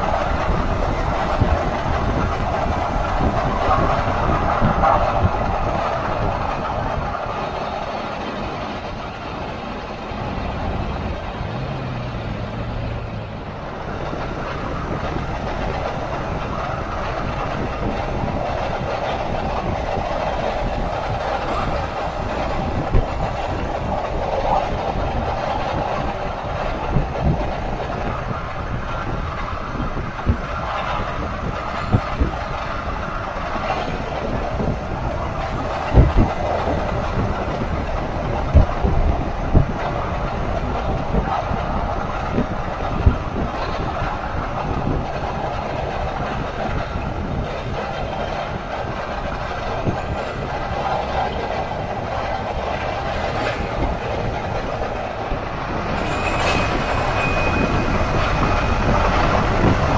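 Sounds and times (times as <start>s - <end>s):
road and driveline drone: 0.0s - 59.9s.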